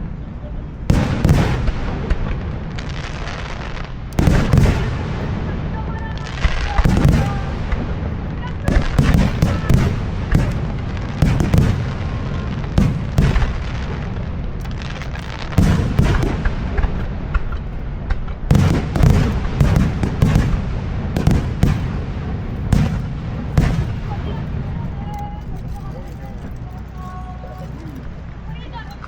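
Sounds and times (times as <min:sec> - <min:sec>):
low rumble: 0:00.0 - 0:29.0
fireworks bursting: 0:00.8 - 0:29.0.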